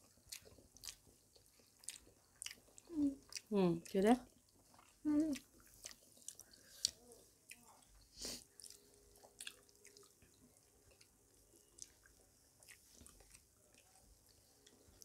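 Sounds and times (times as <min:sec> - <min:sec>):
chewing and wet mouth smacks: 0:00.0 - 0:15.0.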